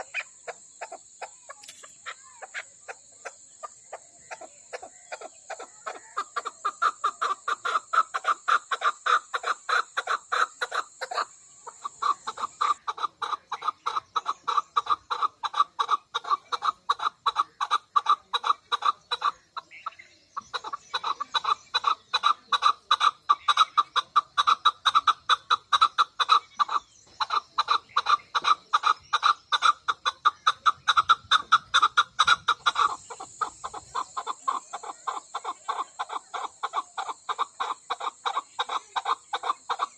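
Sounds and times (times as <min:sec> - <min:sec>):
partridge calling: 0:00.0 - 0:39.9.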